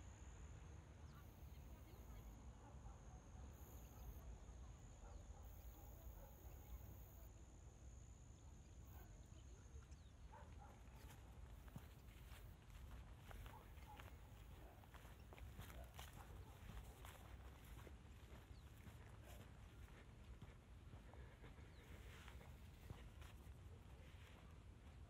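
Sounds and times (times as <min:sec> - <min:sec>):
faint outdoor ambience: 0:00.0 - 0:25.0.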